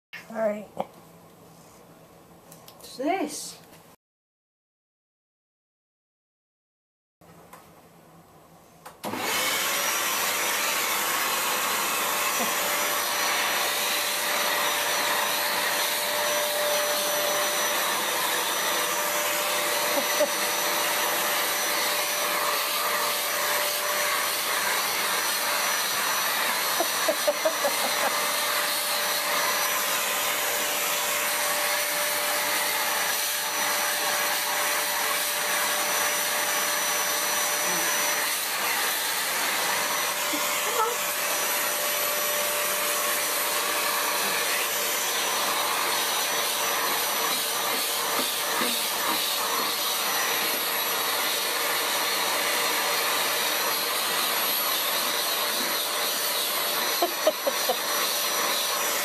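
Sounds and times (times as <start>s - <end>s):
vacuum cleaner whining: 8.9s - 59.0s.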